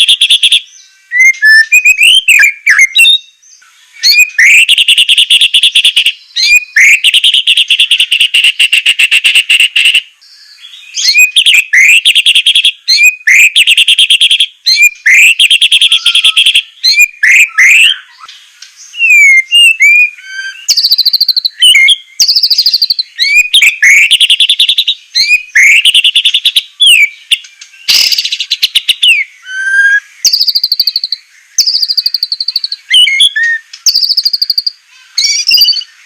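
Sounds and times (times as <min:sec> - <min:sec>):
bird whistled phrases: 0:00.0 - 0:03.3, 0:04.0 - 0:10.0, 0:10.8 - 0:18.3, 0:19.0 - 0:35.9
bird singing rattling trills: 0:00.0 - 0:36.0.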